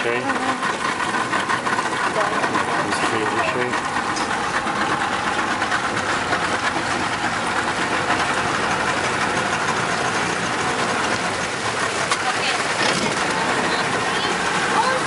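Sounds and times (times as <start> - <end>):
motorboat engine running: 0.0 - 15.0
water noise: 0.0 - 15.0.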